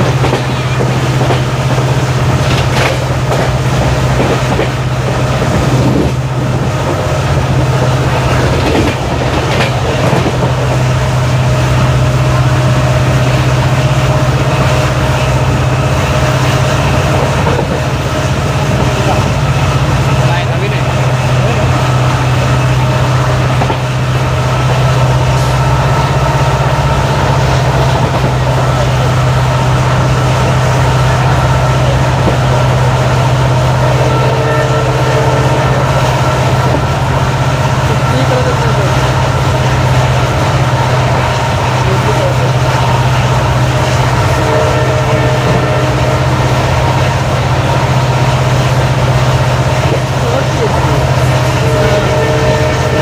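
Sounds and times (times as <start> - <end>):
diesel locomotive engine throbbing: 0.0 - 53.0.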